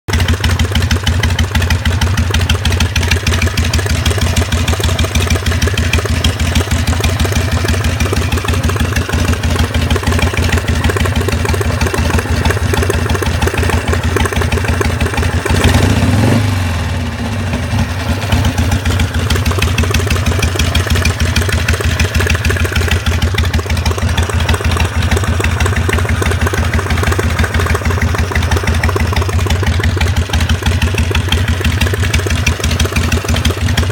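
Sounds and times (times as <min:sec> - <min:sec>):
engine knocking: 0:00.0 - 0:33.9
motorcycle engine idling: 0:00.1 - 0:33.9.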